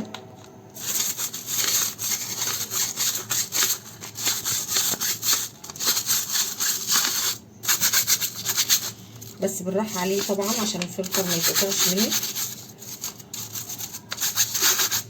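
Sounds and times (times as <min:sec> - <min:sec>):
scrubbing a filter by hand: 0:00.8 - 0:09.0, 0:09.8 - 0:15.0.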